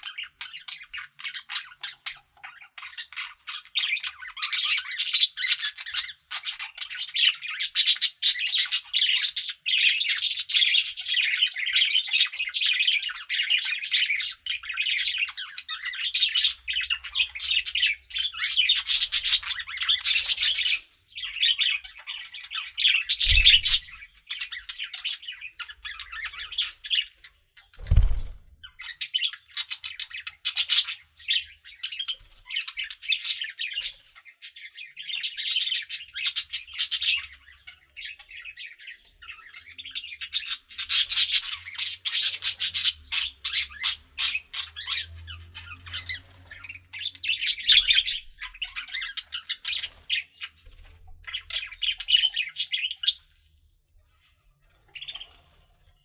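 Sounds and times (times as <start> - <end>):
budgerigars chattering: 0.0 - 50.6.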